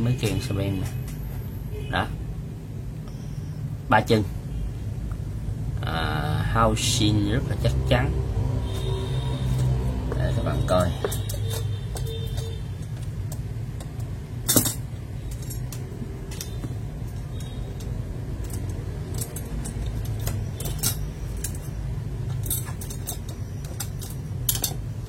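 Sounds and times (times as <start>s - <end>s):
steady low hum: 0.9s - 25.0s.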